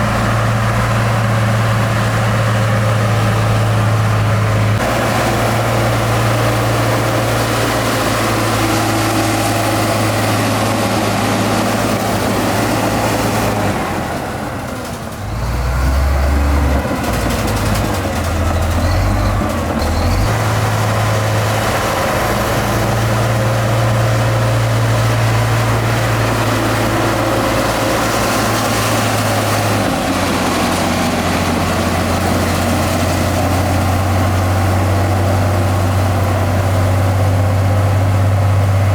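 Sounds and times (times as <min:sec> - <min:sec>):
diesel construction machinery running: 0:00.0 - 0:38.9.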